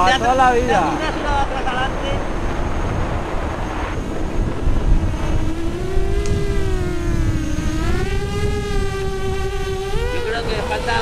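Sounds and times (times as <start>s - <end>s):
low rumbling noise: 0.0s - 11.0s
model motor and propeller whine: 0.0s - 11.0s.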